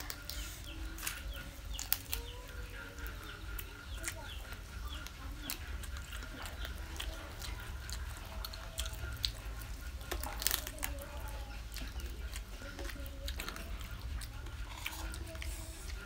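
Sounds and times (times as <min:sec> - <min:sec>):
crunchy clicks and smacks: 0:00.0 - 0:16.0
person chewing: 0:00.0 - 0:16.0.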